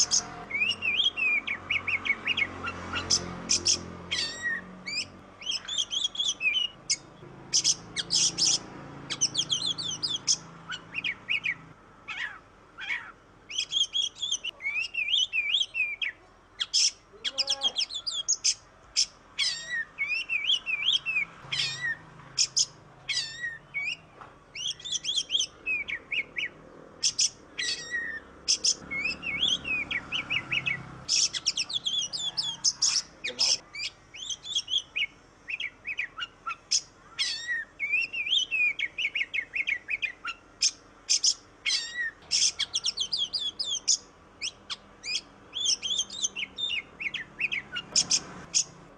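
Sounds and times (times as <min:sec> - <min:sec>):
songbird singing varied phrases: 0:00.0 - 0:48.9.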